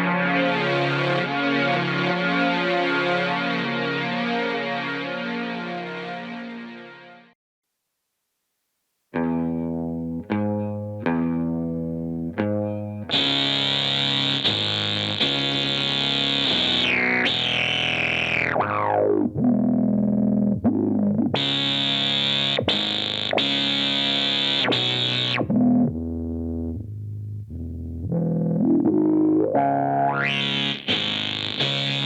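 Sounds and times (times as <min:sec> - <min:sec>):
buzzy synth-bass notes: 0:00.0 - 0:07.2, 0:09.3 - 0:32.0.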